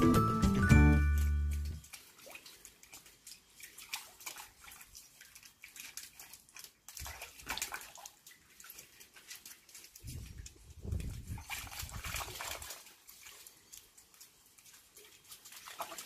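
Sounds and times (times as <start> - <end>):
water splashing and lapping: 0.2 - 16.0.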